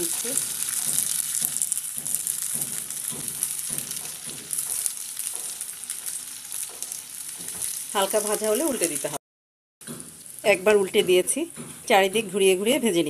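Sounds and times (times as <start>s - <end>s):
hot oil sizzling: 0.0s - 9.2s, 9.8s - 13.0s.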